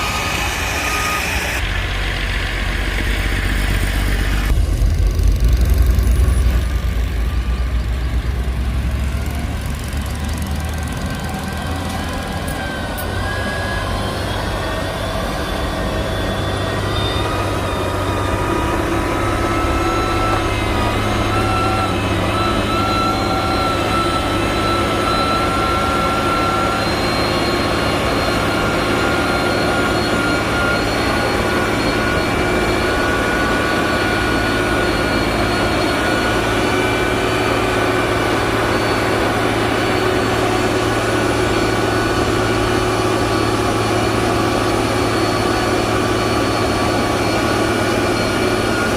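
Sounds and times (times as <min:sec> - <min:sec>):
faint high whine: 0:00.0 - 0:48.9
heavy diesel engine running: 0:00.0 - 0:48.9.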